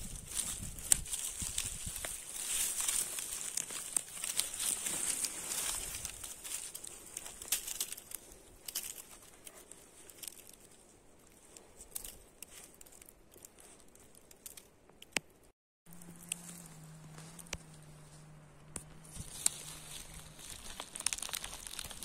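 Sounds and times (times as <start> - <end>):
twigs and needles crackling: 0.0 - 22.0.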